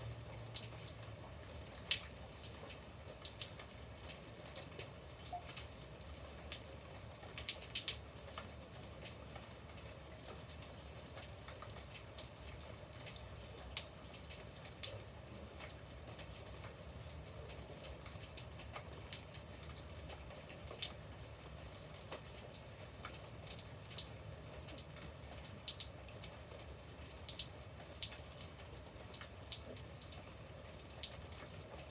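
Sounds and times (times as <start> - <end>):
raindrops tapping: 0.0 - 31.9.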